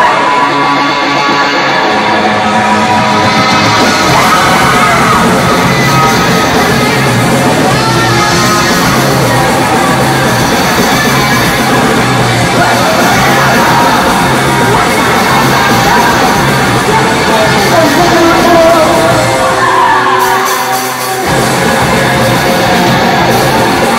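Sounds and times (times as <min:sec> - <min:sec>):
live noise rock band: 0:00.0 - 0:23.9
shouted vocals: 0:00.0 - 0:23.9.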